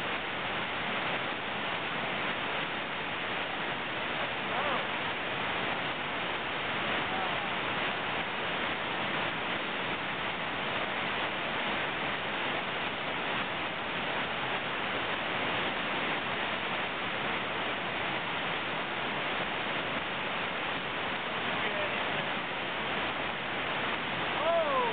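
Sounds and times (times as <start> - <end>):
whitewater rapid rushing: 0.0 - 24.9.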